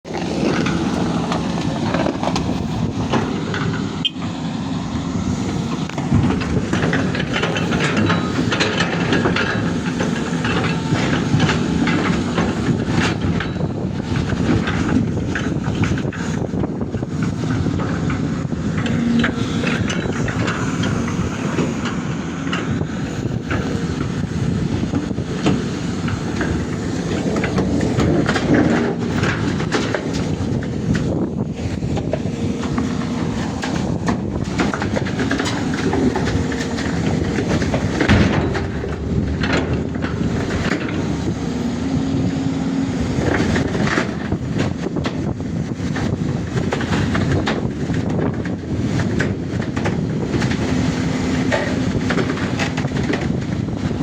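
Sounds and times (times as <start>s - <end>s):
excavator diesel engine running: 0.0s - 54.0s
metallic clanks and rattles: 5.7s - 54.0s.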